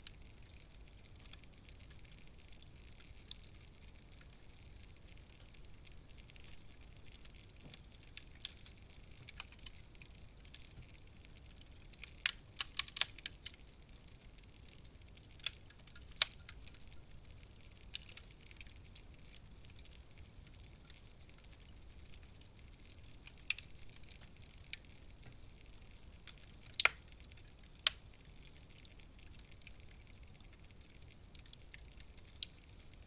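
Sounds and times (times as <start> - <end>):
faint steady hiss: 0.0 - 33.0
wood fire crackling: 0.0 - 33.0.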